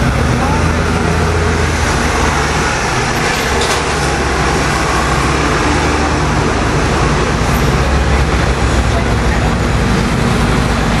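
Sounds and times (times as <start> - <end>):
idling traffic hum: 0.0 - 11.0.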